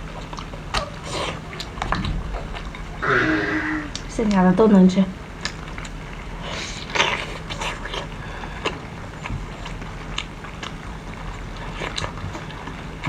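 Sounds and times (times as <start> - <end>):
chewing and eating clicks: 0.0 - 3.0, 5.4 - 13.0
steady low hum: 0.0 - 13.0.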